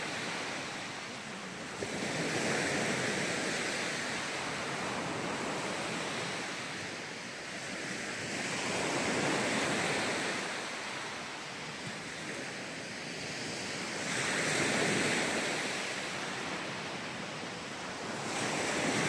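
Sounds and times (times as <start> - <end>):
small waves breaking on beach: 0.0 - 19.0.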